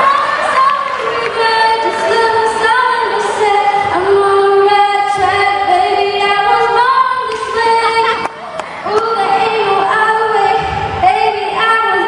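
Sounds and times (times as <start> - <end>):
women singing long notes: 0.0 - 12.0.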